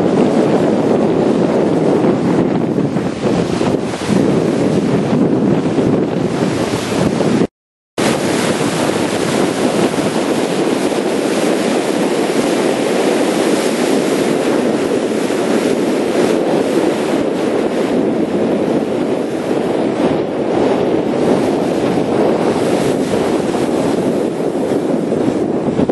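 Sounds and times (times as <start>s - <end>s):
water washing past boat hull: 0.0s - 25.9s
wind buffeting microphone: 0.0s - 25.9s.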